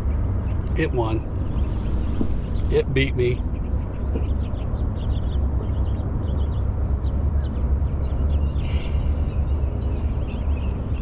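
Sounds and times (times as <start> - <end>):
small birds chirping: 0.0 - 11.0
wind rumbling on microphone: 0.0 - 11.0.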